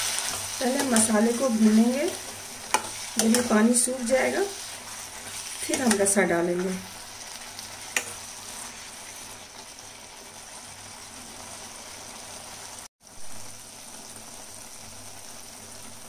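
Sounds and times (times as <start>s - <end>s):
curry sizzling and bubbling in a pan: 0.0s - 16.0s.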